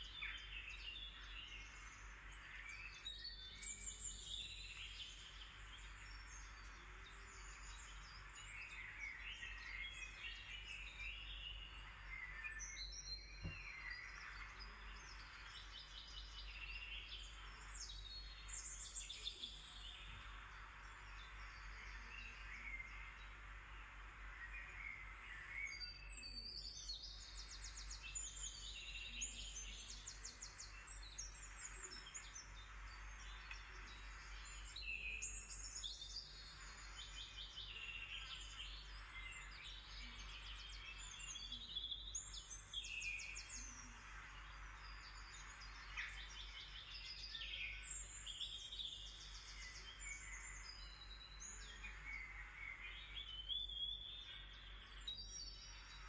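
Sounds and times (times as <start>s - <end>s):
birds chirping and trilling: 0.0s - 56.0s
soft steady hiss: 0.0s - 56.0s.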